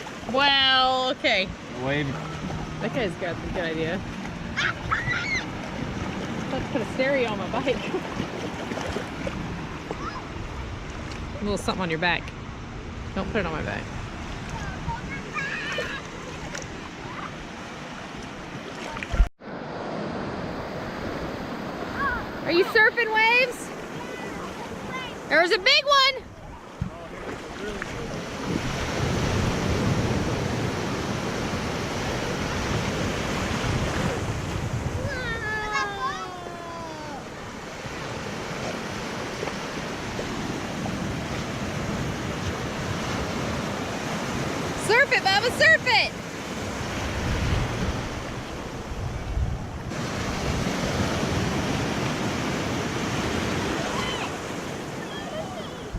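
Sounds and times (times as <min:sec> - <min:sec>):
wind gusting across microphone: 0:00.0 - 0:36.4, 0:37.2 - 0:55.9
ocean wave breaking: 0:00.0 - 0:55.9.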